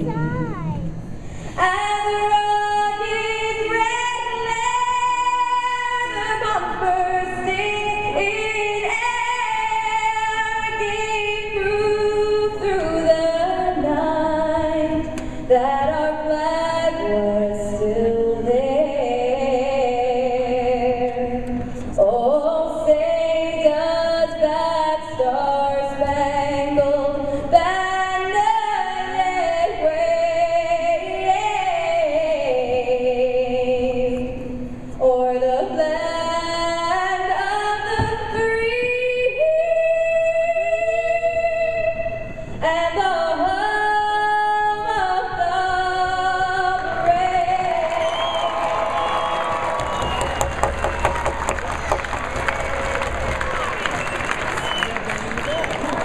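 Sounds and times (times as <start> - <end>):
woman singing unaccompanied: 1.6 - 48.3.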